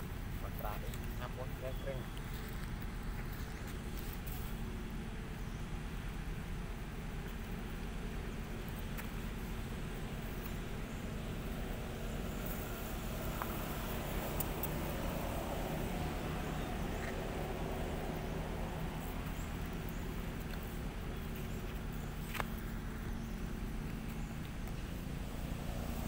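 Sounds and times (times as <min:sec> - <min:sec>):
low even hum: 0:00.0 - 0:26.0.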